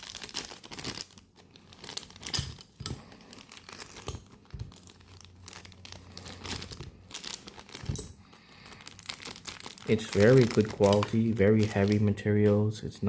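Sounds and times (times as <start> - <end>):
packaging crinkling and rustling: 0.0 - 12.7.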